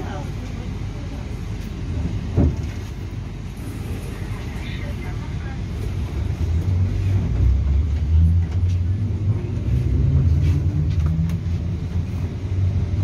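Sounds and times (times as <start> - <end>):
electric train interior rumble: 0.0 - 13.0.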